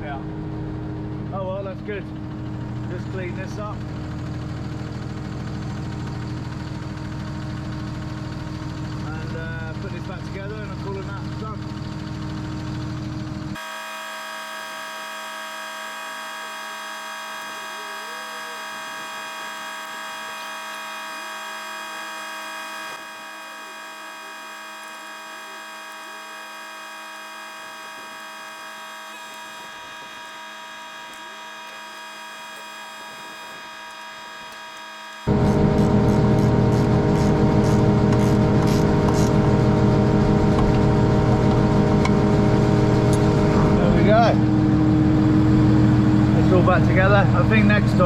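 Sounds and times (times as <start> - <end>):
steady machine hum: 0.0 - 48.0.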